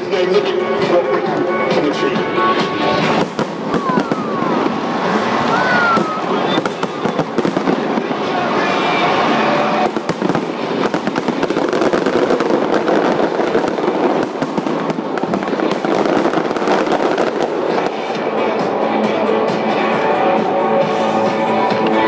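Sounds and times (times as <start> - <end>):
fireworks bangs and crackles: 0.0 - 22.0
music: 0.0 - 22.0.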